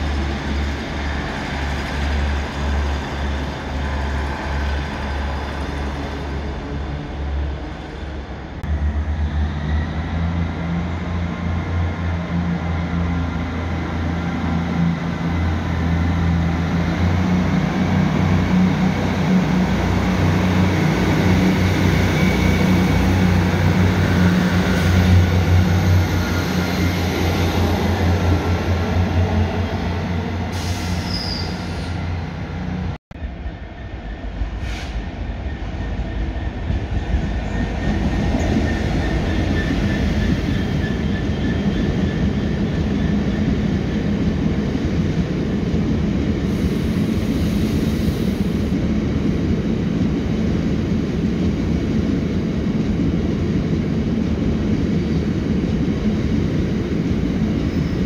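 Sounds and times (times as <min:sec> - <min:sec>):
freight train wheels on rails: 0:00.0 - 0:58.0
passenger train humming: 0:00.0 - 0:58.0.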